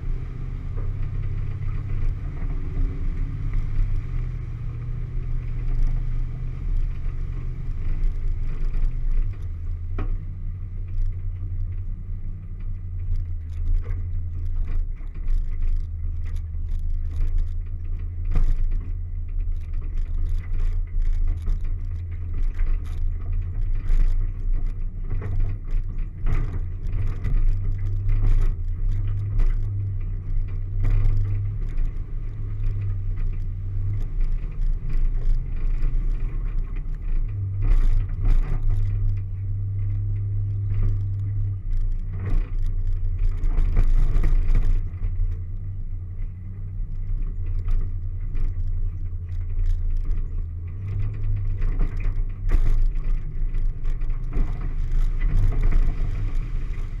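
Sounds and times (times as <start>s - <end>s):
vehicle engine running: 0.0s - 57.0s
vehicle knocks and rattles: 0.0s - 57.0s.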